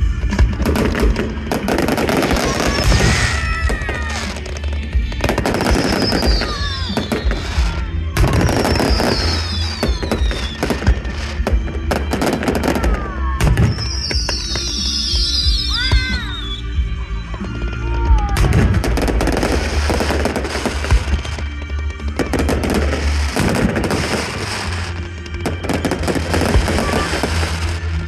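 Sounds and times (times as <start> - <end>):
falling whistling fireworks: 0.0 - 28.0
fireworks bangs and crackling: 0.0 - 28.0
music: 0.0 - 28.0.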